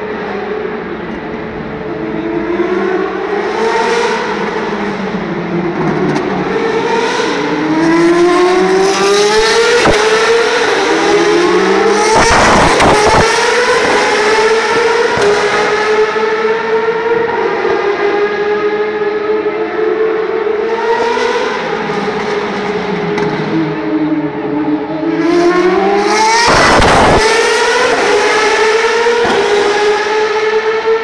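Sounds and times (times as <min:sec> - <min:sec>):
racing cars high-revving engines: 0:00.0 - 0:31.0.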